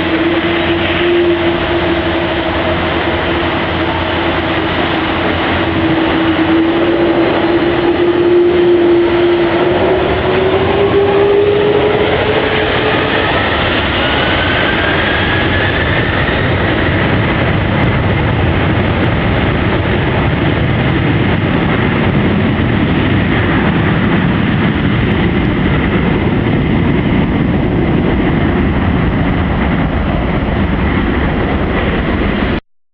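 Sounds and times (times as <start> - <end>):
jet engines roaring: 0.0 - 32.6.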